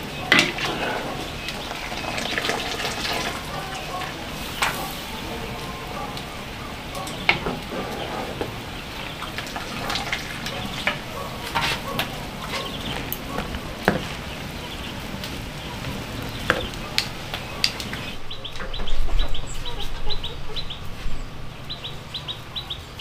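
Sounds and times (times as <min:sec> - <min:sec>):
hot water sizzling and dripping: 0:00.0 - 0:18.6.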